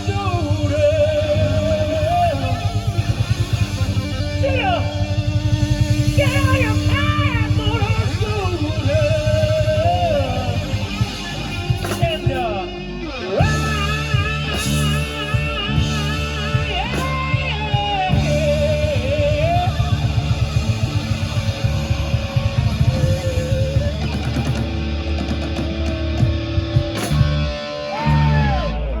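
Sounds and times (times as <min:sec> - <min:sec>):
bass guitar: 0:00.0 - 0:29.0
drums: 0:00.0 - 0:29.0
electric guitar lead: 0:00.0 - 0:29.0.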